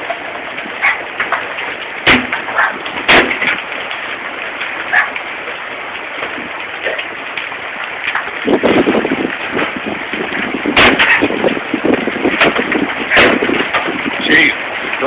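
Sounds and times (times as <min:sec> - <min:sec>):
loud hailstone impacts: 0:00.0 - 0:05.2, 0:05.9 - 0:14.9
hail falling: 0:00.0 - 0:15.0.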